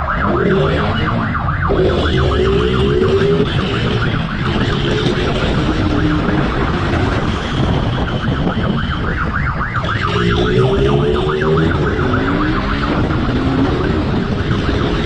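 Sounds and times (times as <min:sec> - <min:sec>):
engine and road noise: 0:00.0 - 0:15.0
police siren yelping: 0:00.0 - 0:15.0.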